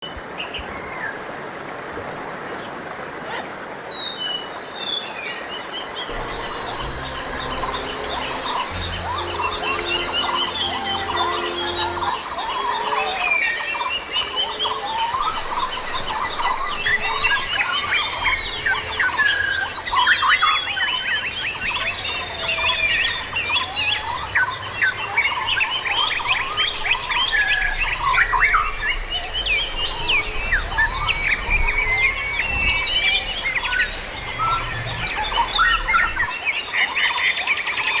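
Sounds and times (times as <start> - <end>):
birds chirping and whistling: 6.1 - 37.9.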